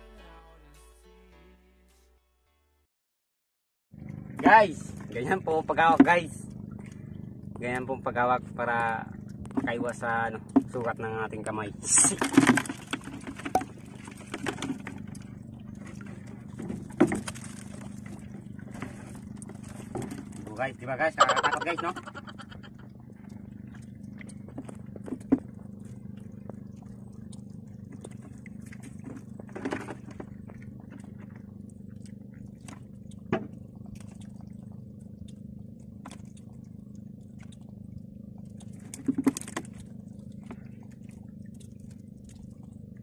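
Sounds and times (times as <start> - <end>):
low engine hum: 4.0 - 43.0.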